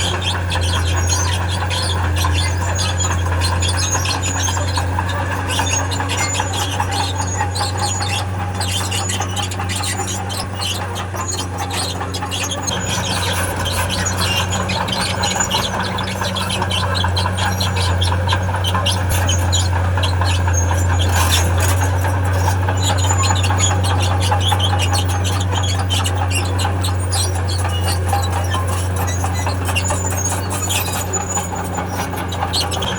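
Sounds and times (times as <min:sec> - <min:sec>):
bulldozer diesel engine running: 0:00.0 - 0:32.9
steel tracks squealing and clattering: 0:00.0 - 0:32.9.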